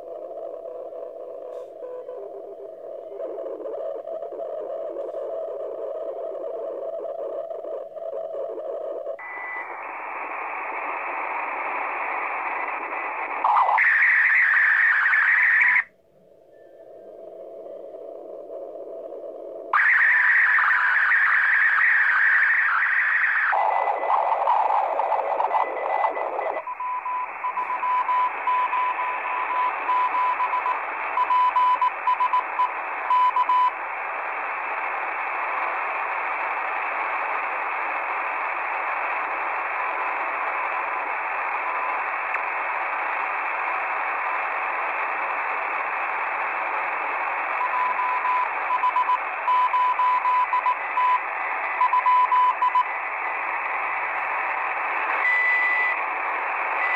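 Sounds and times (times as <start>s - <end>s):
shortwave radio hiss: 0.0s - 56.9s.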